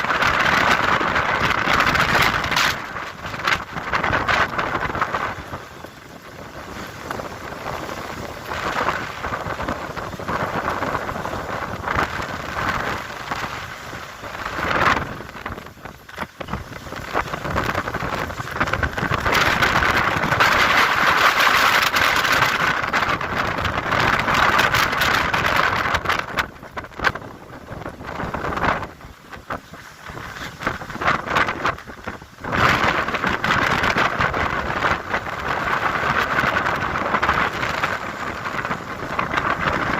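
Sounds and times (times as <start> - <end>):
wind gusting on microphone: 0.0 - 39.9.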